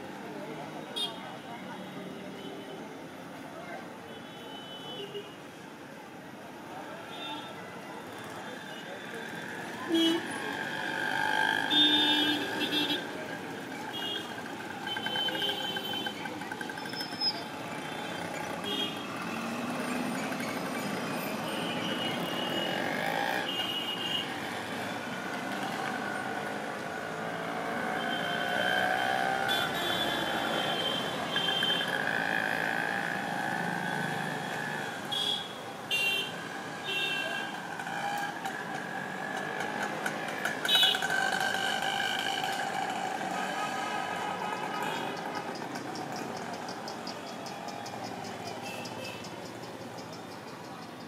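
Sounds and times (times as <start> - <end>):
busy street traffic: 0.0 - 51.0.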